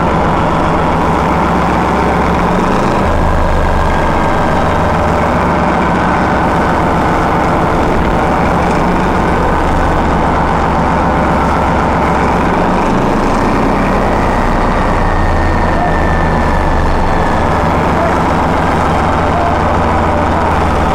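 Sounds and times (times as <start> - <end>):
diesel locomotive engine idling: 0.0 - 20.9
thin steady whine: 0.0 - 20.9.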